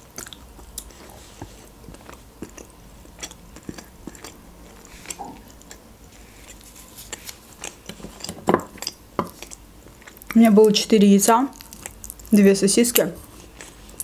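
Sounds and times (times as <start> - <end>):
close chewing and mouth sounds: 0.0 - 14.0.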